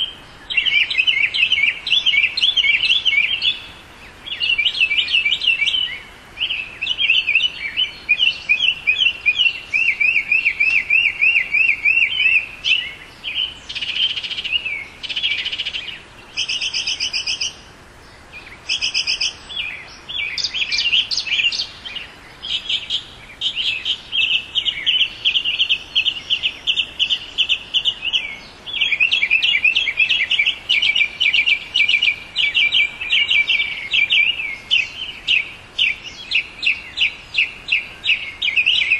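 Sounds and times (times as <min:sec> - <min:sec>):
mockingbird singing: 0:00.0 - 0:17.6, 0:18.4 - 0:38.9.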